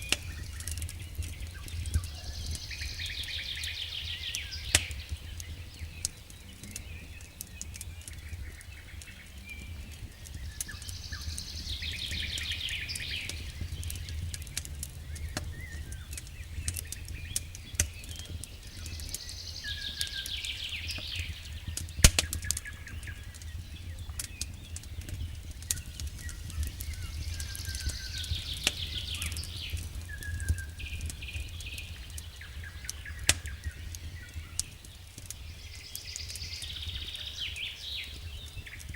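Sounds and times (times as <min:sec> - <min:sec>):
birds chirping in trills: 0:00.0 - 0:38.9
wood fire crackling and popping: 0:00.0 - 0:38.9.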